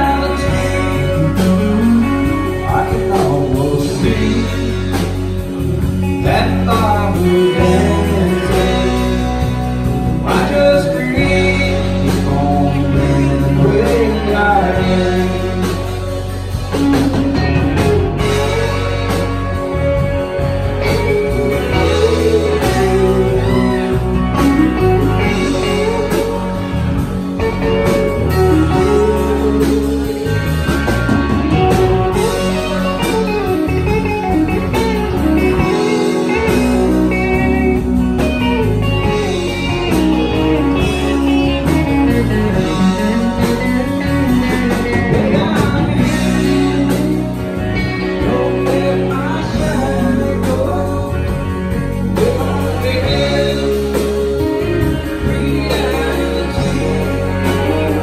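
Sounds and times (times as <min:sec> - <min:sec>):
bass guitar: 0:00.0 - 0:58.0
drums: 0:00.0 - 0:58.0
electric guitar lead: 0:00.0 - 0:58.0.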